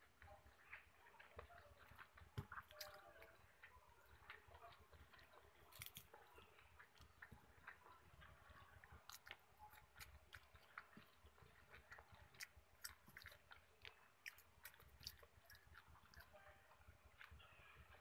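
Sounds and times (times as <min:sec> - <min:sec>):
wet chewing smacks: 0:00.5 - 0:18.0.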